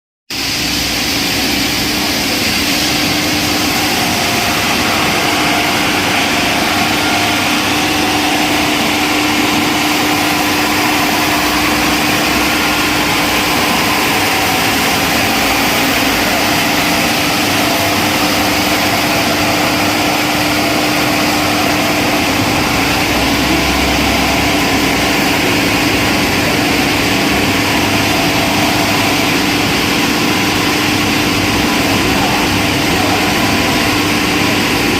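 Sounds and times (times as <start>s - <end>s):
wood sander humming: 0.4s - 34.9s.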